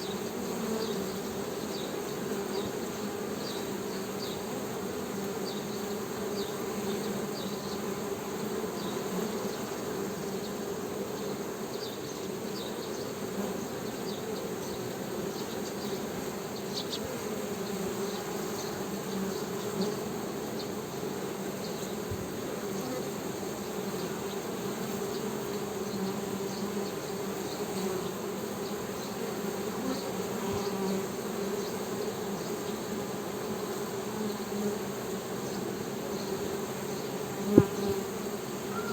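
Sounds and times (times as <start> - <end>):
honey bees buzzing: 0.0 - 38.9.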